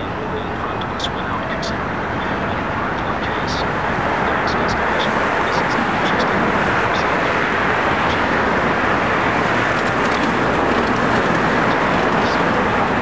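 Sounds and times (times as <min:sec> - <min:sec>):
road traffic roar: 0:00.0 - 0:13.0.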